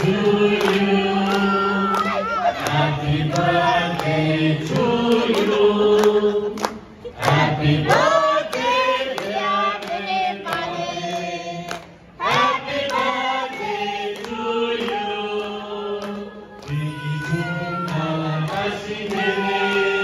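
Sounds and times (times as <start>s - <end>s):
group of people singing: 0.0s - 20.0s.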